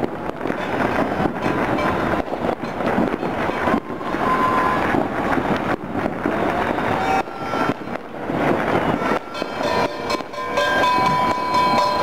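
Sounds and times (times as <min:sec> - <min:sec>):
firecrackers popping and crackling: 0:00.0 - 0:12.0
firework whistling: 0:00.0 - 0:12.0.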